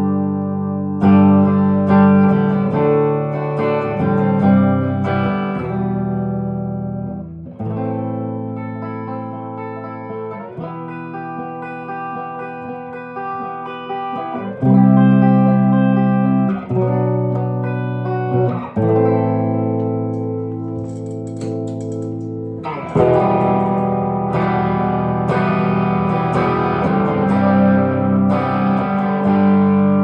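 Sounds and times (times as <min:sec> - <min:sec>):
electric guitar chords ringing: 0:00.0 - 0:30.0.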